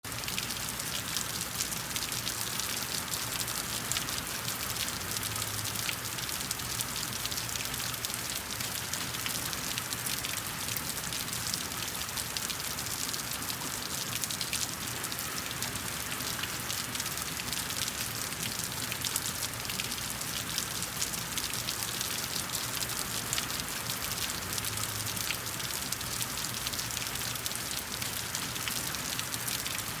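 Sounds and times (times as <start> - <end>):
rain falling on concrete: 0.0 - 30.0.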